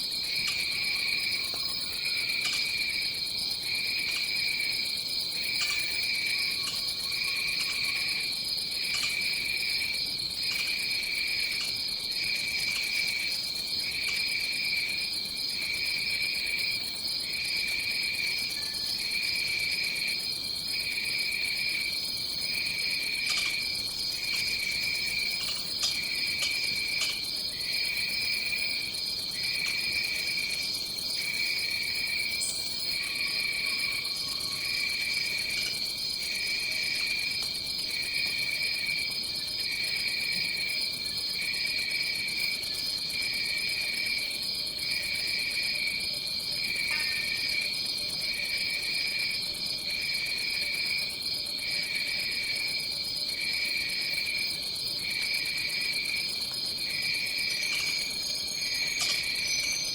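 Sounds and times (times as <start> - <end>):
lower insect trill: 0.0 - 59.9
steady high insect trill: 0.0 - 59.9.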